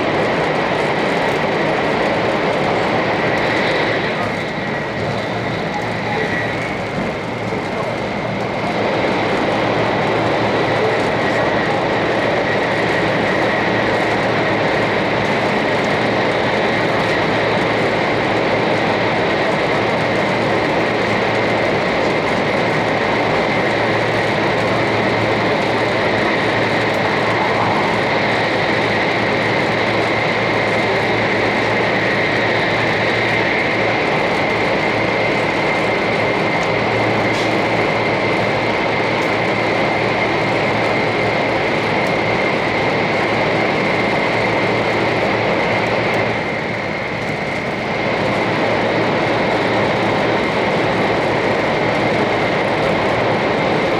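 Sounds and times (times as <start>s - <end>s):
train rolling and air noise: 0.0s - 53.9s.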